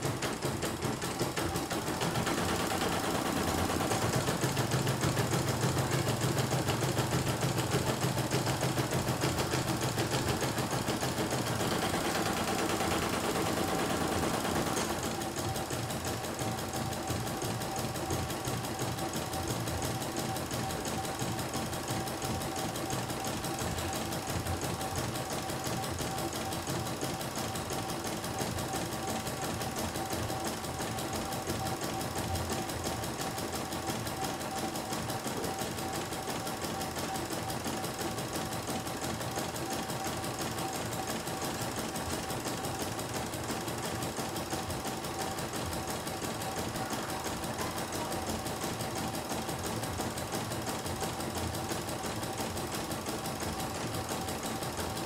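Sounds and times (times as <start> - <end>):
sewing needle chatter: 0.0 - 55.0.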